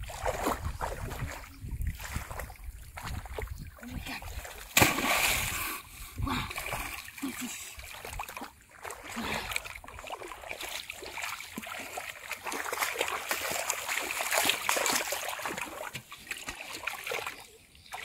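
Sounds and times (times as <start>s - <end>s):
muddy water splashing: 0.0s - 18.0s.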